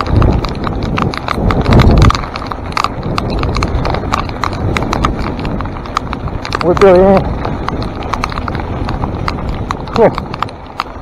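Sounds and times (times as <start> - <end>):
low rumble: 0.0 - 11.0
mountain bike clattering over rocks: 0.0 - 11.0.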